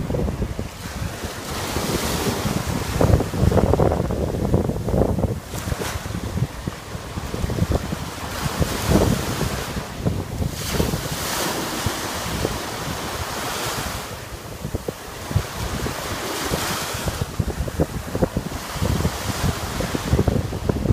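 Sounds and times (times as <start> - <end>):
small waves breaking on sand: 0.0 - 20.9
wind buffeting microphone: 0.0 - 20.9.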